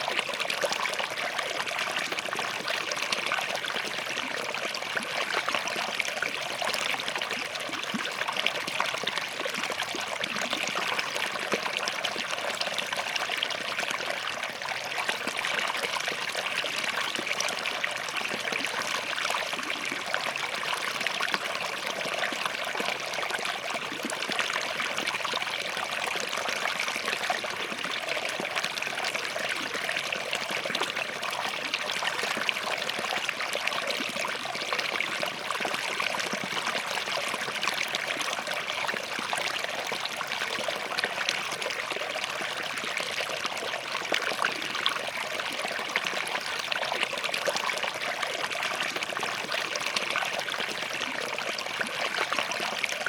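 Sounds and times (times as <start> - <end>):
stream running over rocks: 0.0 - 53.0.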